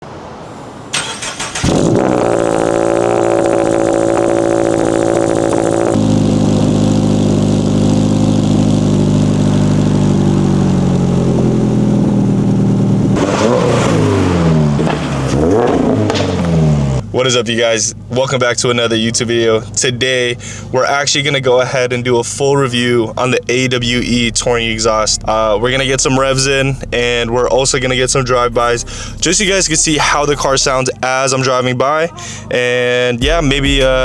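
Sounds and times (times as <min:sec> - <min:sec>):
car engine idling and revving: 0:00.6 - 0:34.0.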